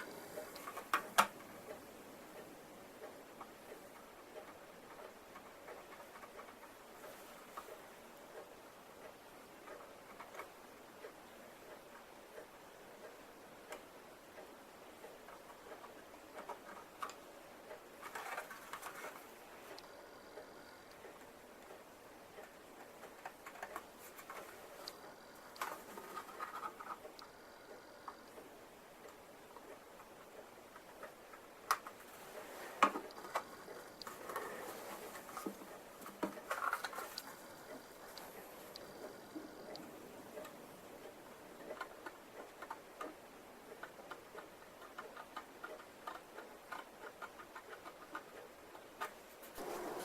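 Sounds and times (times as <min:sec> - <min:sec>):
hand tool ticking on plastic: 0:00.0 - 0:32.2, 0:32.8 - 0:50.0.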